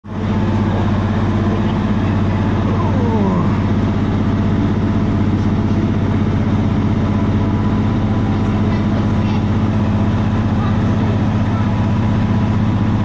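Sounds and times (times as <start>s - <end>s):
train engine drone: 0.0s - 13.0s.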